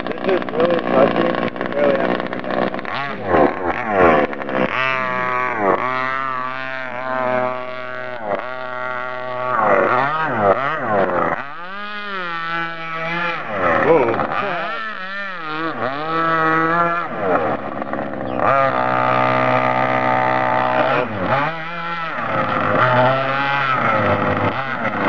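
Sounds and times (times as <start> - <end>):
model speedboat engine racing: 0.0 - 25.0.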